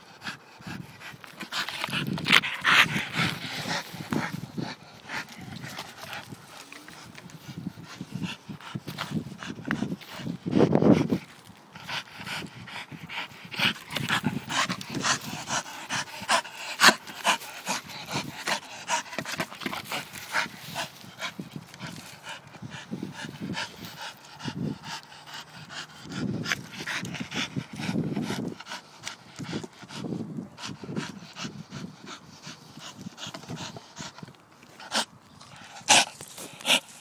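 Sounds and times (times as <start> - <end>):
dog panting: 0.0 - 37.0.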